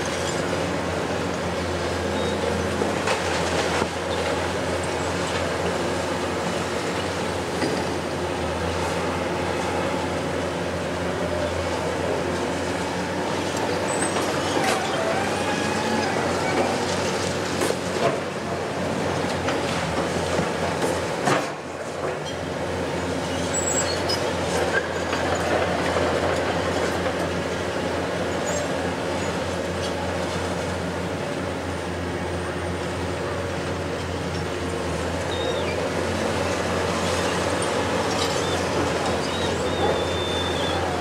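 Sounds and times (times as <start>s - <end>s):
heavy diesel excavator engine running: 0.0s - 41.0s.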